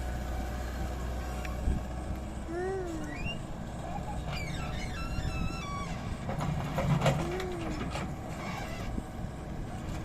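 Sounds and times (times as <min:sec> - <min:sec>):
engine whine: 0:00.0 - 0:10.0
excavator engine running: 0:00.0 - 0:10.0.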